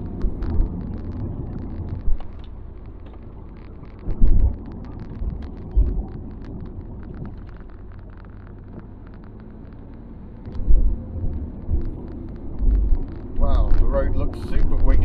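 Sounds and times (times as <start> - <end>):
engine and tyre rumble: 0.0 - 15.0
light ticks: 0.0 - 15.0
low thumps: 0.0 - 15.0.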